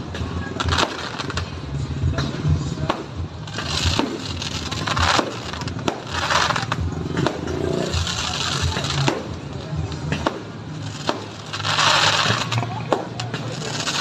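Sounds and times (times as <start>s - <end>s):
fireworks banging: 0.0s - 14.0s
fireworks crackling: 0.0s - 14.0s.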